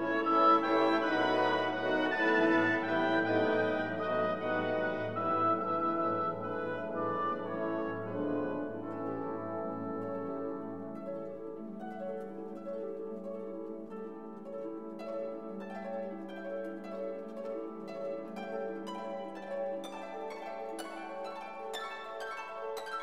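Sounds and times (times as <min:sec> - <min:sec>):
instrumental music: 0:00.0 - 0:23.0.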